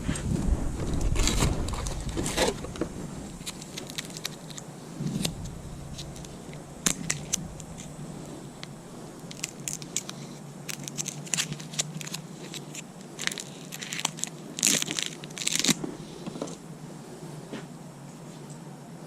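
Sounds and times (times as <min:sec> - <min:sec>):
hand tools clicking and scraping: 0:01.2 - 0:16.6.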